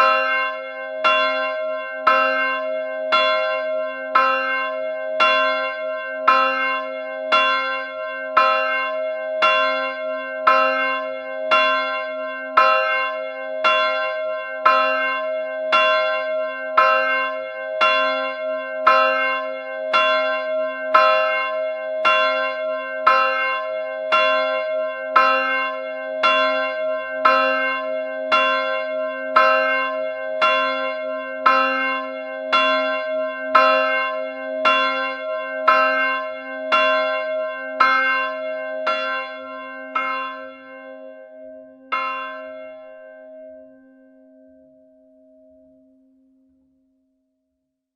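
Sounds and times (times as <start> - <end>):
church bell tolling: 0.0 - 46.6.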